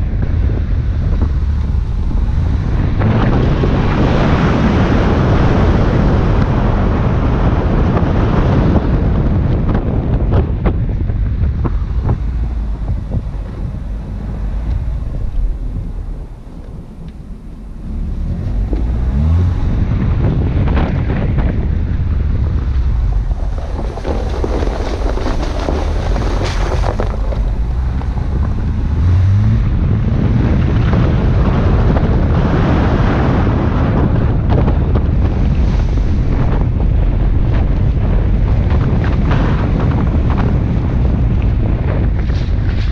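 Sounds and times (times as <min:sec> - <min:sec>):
car engine rumble: 0:00.0 - 0:42.9
tyres on snowy dirt track: 0:00.0 - 0:42.9
wind buffeting microphone: 0:00.0 - 0:42.9.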